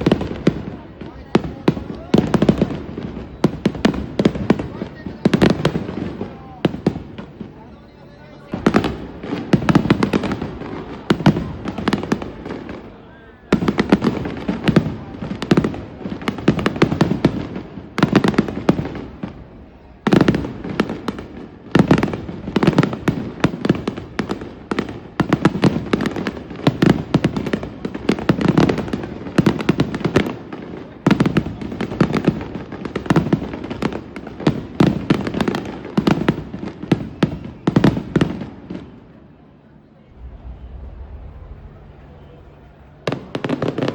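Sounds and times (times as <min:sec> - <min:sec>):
fireworks bursting and crackling: 0:00.0 - 0:39.2, 0:40.0 - 0:43.9.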